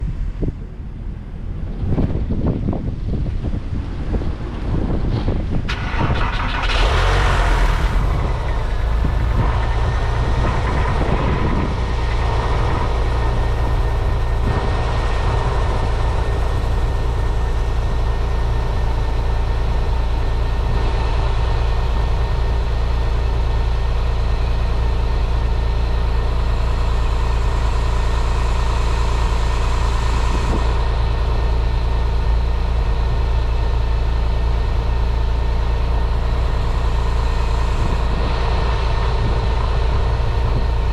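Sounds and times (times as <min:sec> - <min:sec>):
car engine starting and idling: 0:00.0 - 0:40.9.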